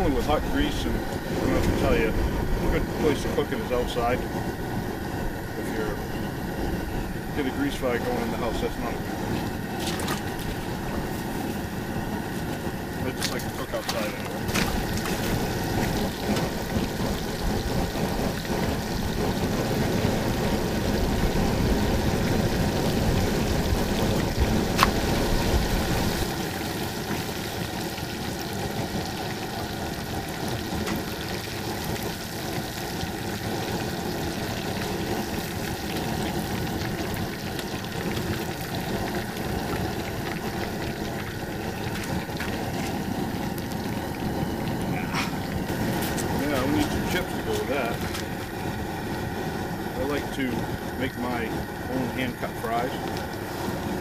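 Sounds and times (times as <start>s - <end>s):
fish deep-frying in oil: 0.0s - 54.0s.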